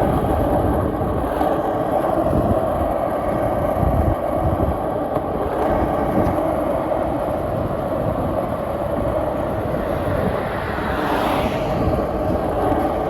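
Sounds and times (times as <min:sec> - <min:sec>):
skateboard wheels rolling on pavement: 0:00.0 - 0:13.0.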